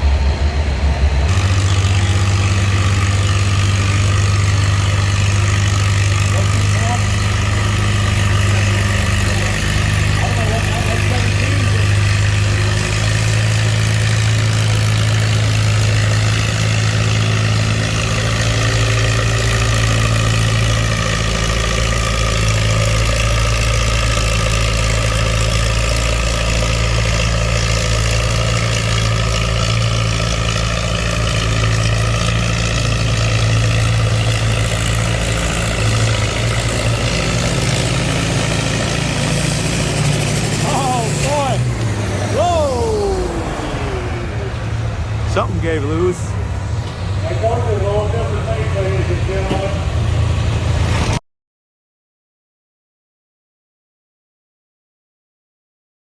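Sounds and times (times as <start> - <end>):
tractor engine running: 0.0 - 51.2.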